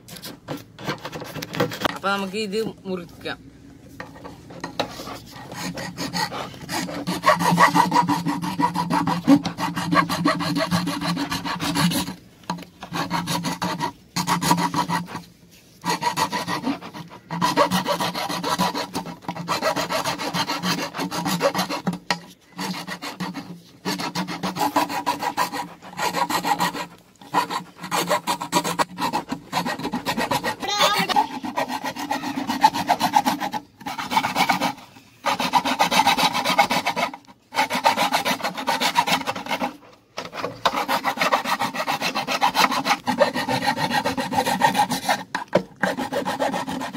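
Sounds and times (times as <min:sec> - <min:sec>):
cord sawing through plastic: 0:00.0 - 0:02.2, 0:04.2 - 0:46.9.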